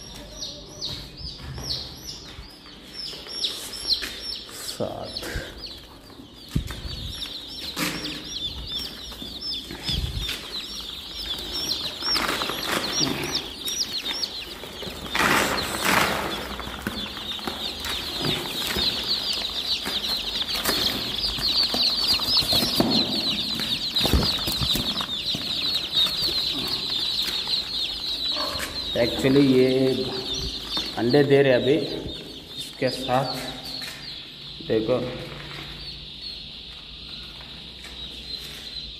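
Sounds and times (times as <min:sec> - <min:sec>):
chicks peeping: 0:00.0 - 0:38.9
chicks scuffling: 0:00.0 - 0:38.9.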